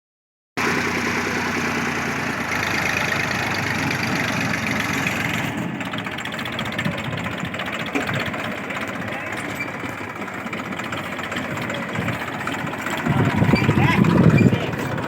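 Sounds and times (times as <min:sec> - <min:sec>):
tractor engine pulsing: 0:00.6 - 0:15.0.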